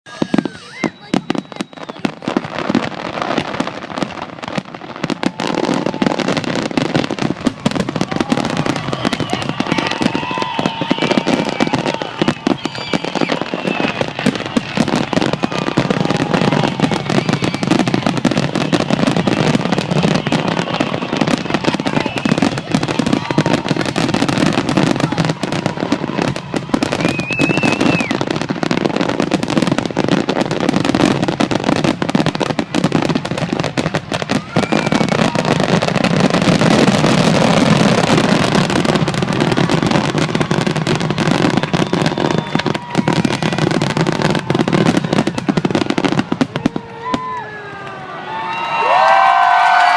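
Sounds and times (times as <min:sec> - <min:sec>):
fireworks bangs and crackles: 0:00.1 - 0:49.9.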